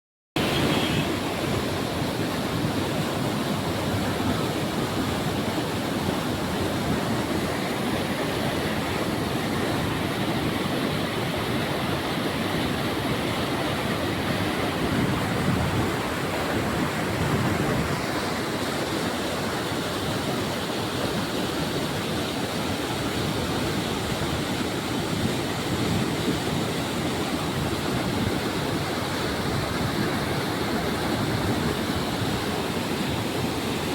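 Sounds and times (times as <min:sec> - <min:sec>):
flowing water rushing: 0:00.4 - 0:33.9.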